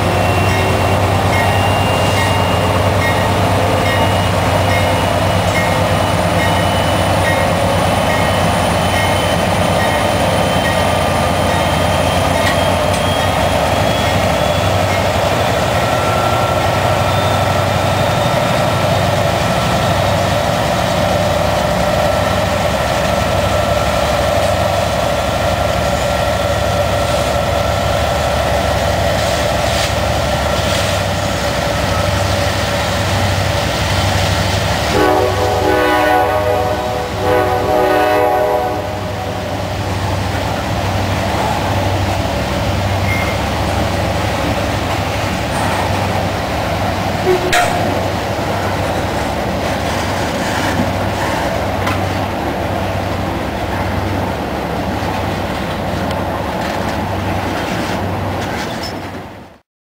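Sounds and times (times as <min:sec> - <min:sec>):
diesel locomotive engine drone: 0:00.0 - 0:59.6.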